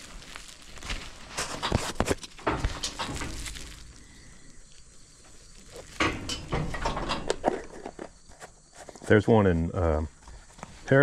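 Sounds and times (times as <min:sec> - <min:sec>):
footsteps: 0:00.0 - 0:09.4.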